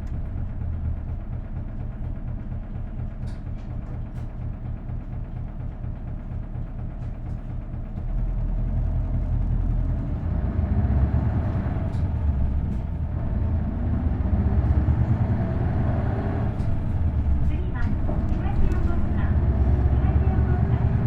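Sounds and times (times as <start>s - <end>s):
diesel bus engine pulling under load: 0.0s - 21.0s.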